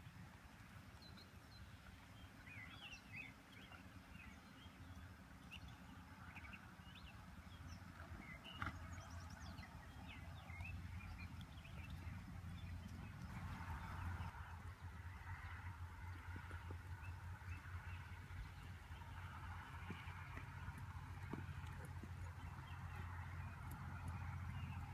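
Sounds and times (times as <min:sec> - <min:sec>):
low steady rumble: 0:00.0 - 0:24.9
birds chirping: 0:01.0 - 0:24.9.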